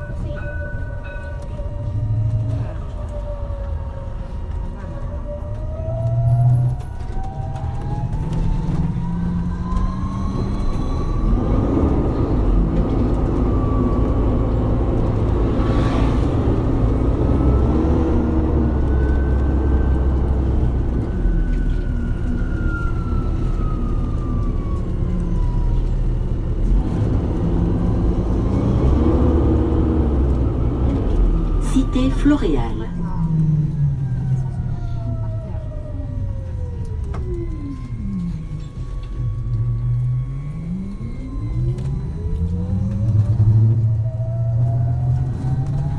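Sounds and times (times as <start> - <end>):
bus engine rumble: 0.0 - 45.9.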